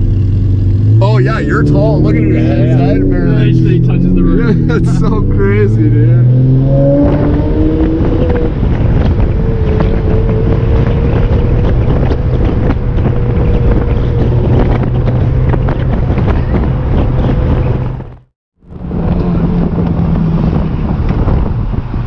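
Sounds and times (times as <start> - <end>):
car engine cruising: 0.0 - 22.0
wind buffeting microphone: 0.7 - 22.0.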